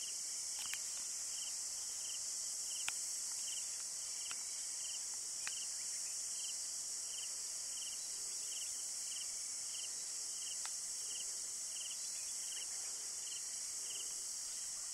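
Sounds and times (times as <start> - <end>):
cricket-like trilled chirp: 0.0 - 14.9.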